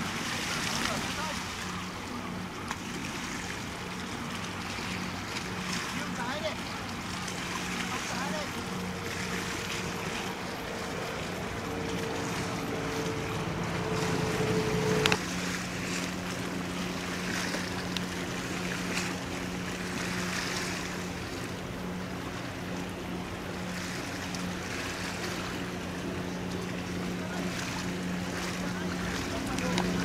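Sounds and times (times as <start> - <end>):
diesel engines humming: 0.0 - 30.0
low steady hum: 0.0 - 30.0
water washing: 0.0 - 30.0
wind: 0.0 - 30.0.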